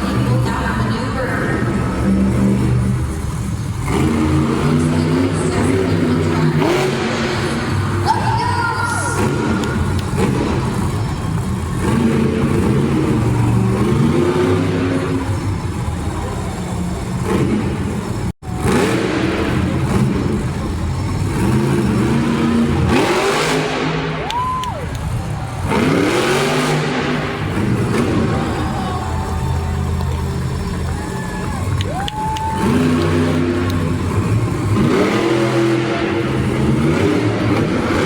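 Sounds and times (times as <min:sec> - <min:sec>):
monster truck engines revving: 0:00.0 - 0:38.0.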